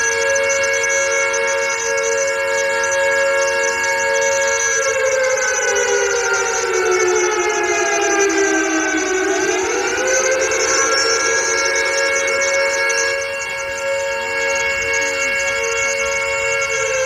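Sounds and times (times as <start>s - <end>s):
air raid siren wailing: 0.0s - 17.0s.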